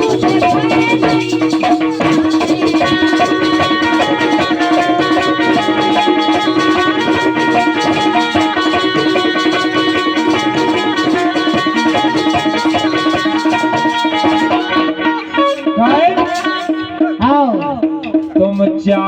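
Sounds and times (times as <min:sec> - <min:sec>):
busy drum rhythm: 0:00.0 - 0:19.0
plucked string melody: 0:00.0 - 0:19.0.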